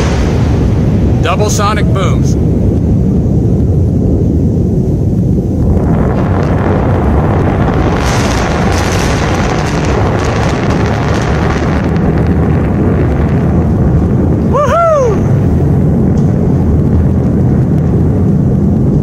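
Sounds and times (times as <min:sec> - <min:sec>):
deep continuous rumble: 0:00.0 - 0:19.0.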